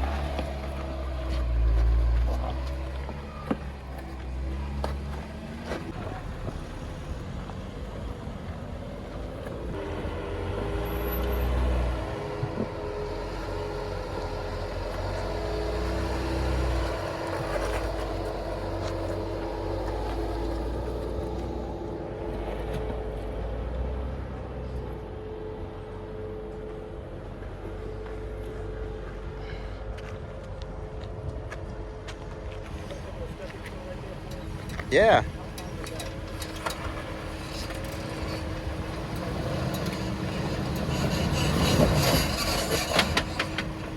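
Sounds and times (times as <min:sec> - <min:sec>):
off-road engine crawling: 0:00.0 - 0:43.9.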